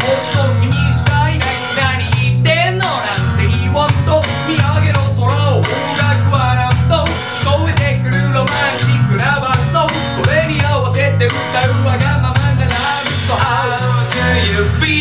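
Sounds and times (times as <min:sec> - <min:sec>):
man singing: 0:00.0 - 0:15.0
pop backing music with bass: 0:00.0 - 0:15.0.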